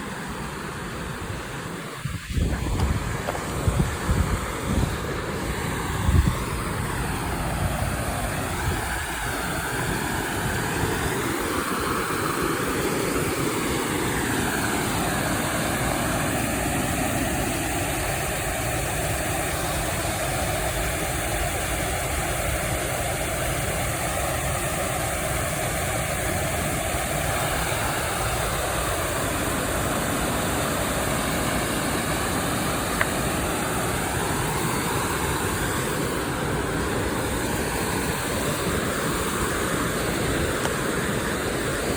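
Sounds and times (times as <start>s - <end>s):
creek water rushing: 0.0s - 41.9s.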